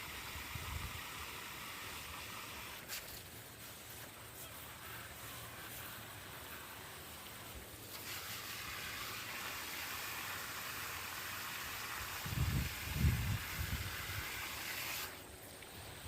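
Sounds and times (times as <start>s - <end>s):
hose nozzle spraying water: 0.0s - 16.0s.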